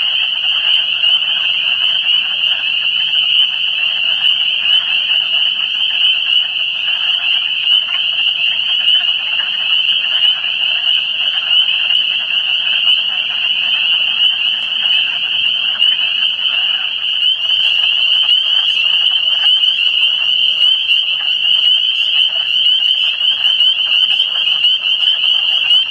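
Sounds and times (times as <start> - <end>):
lower frog calls: 0.0 - 25.9
spring peepers chorus: 0.0 - 25.9.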